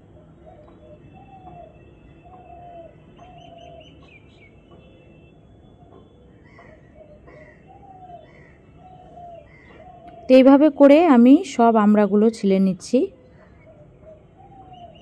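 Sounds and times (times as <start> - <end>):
birds calling: 0.0 - 5.1, 5.7 - 11.1, 13.1 - 15.0.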